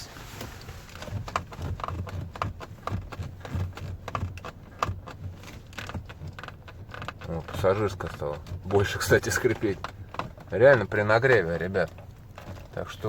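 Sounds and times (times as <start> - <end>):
car door handle creaking and clicking: 0.0 - 13.0.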